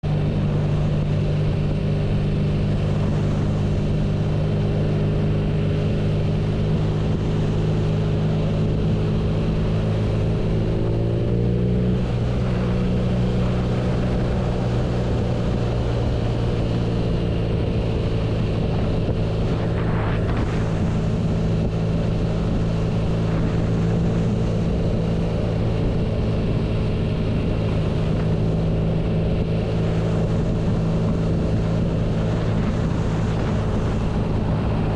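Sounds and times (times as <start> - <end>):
motorcycle engine running: 0.0 - 34.9
wind noise: 0.0 - 34.9.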